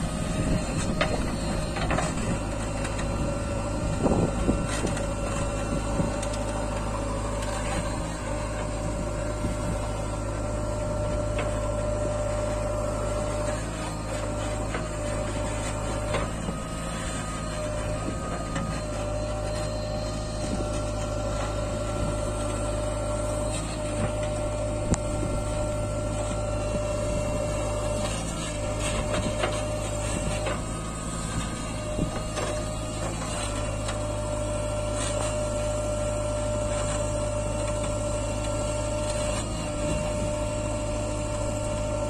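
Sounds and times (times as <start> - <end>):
backhoe diesel engine running: 0.0 - 42.0
steady whine: 0.0 - 42.0.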